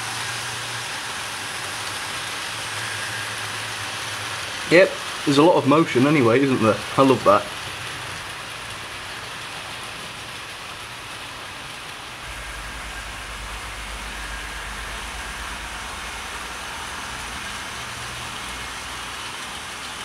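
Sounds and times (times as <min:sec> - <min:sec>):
model train motors hissing: 0:00.0 - 0:20.0
model train passing rumble: 0:00.0 - 0:20.0.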